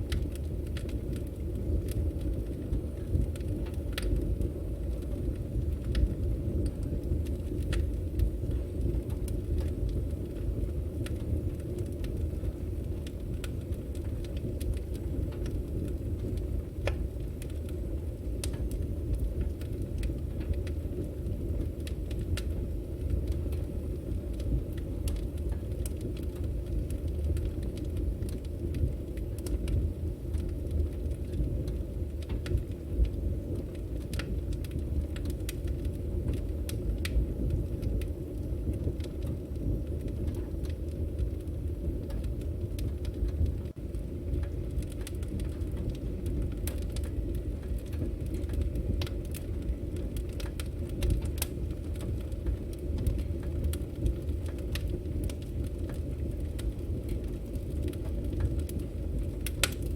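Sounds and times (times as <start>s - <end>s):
burning logs crackling and popping: 0.0s - 59.9s
low rumble of flames: 0.0s - 59.9s.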